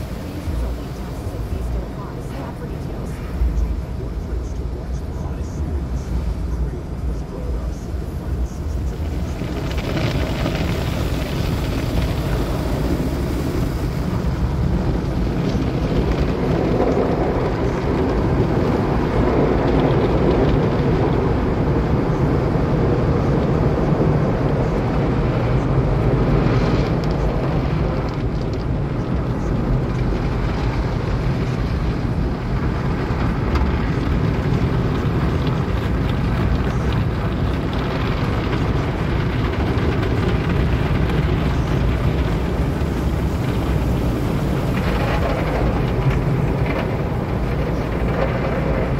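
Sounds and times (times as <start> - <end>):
car wash spraying water: 0.0 - 48.9.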